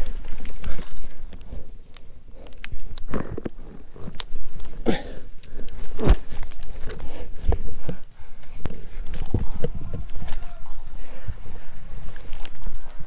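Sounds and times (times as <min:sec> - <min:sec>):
dry leaves and twigs crunching: 0:00.0 - 0:13.0.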